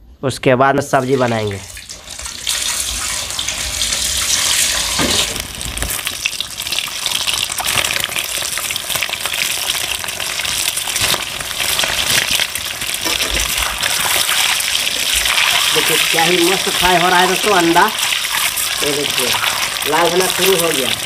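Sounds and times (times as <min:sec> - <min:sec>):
eggs sizzling in hot oil: 0:01.0 - 0:21.0
oil popping and spattering: 0:01.5 - 0:21.0.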